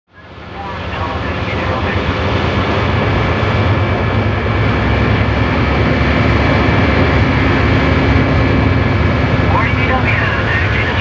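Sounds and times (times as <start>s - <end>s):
rumble of engines and airflow: 0.1s - 11.0s.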